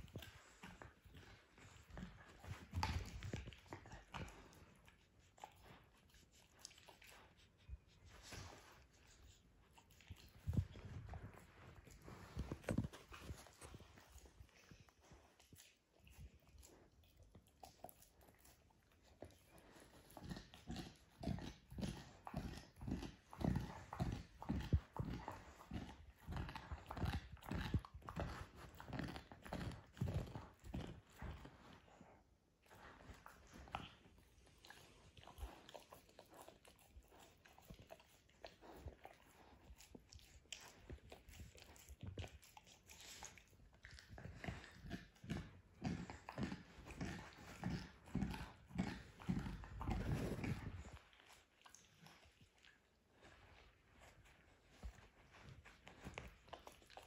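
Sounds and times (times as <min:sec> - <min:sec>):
puppy chewing bone: 0:00.0 - 0:57.0.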